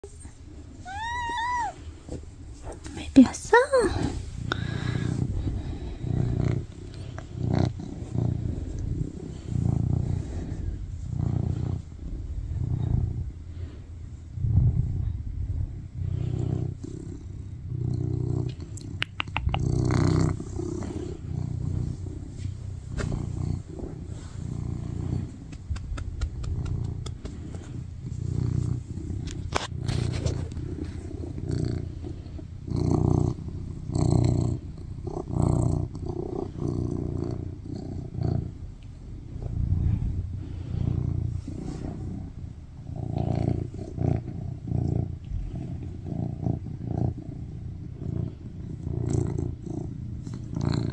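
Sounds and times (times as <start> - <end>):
cat purring loudly: 0.0 - 50.9.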